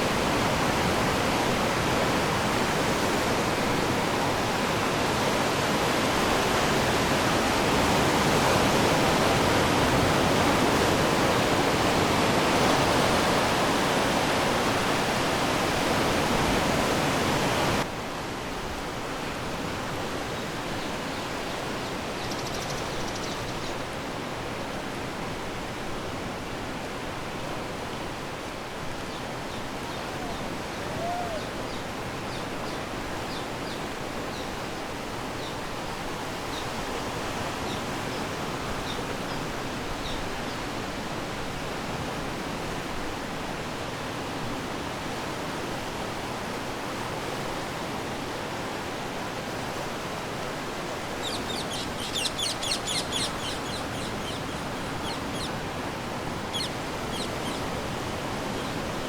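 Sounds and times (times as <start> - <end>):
ocean waves on shore: 0.0 - 59.0.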